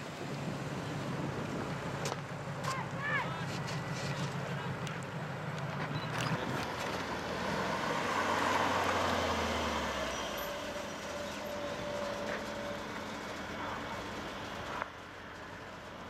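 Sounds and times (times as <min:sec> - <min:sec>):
road noise: 0:00.0 - 0:16.0
vehicle engine: 0:00.0 - 0:16.0.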